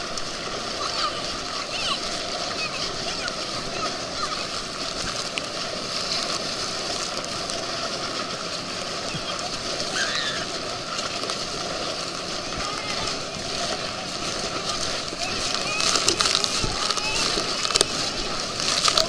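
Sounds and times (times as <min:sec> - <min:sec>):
water splashing against tube: 0:00.0 - 0:19.0.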